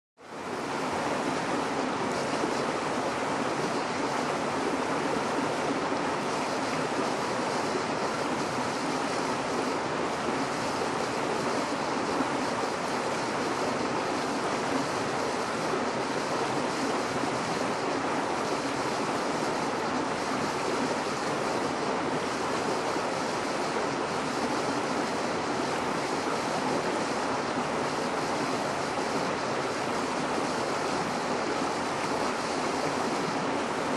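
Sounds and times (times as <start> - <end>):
stream water flowing: 0.2 - 33.9.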